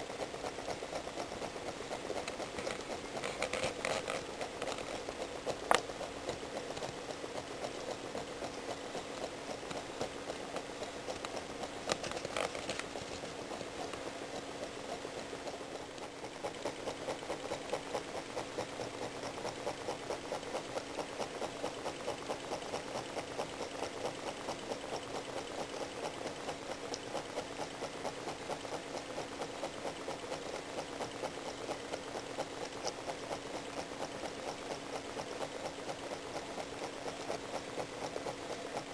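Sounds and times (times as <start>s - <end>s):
small engine ticking: 0.0s - 38.9s
steady low hum: 0.0s - 38.9s.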